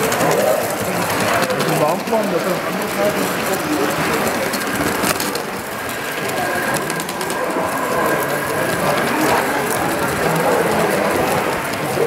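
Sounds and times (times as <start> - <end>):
model train running on metal track: 0.0 - 12.0
murmur of people talking: 0.0 - 12.0.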